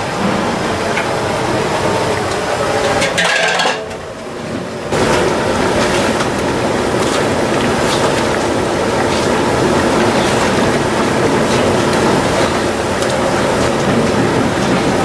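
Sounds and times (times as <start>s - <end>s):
hot oil sizzling and bubbling: 0.1s - 15.0s.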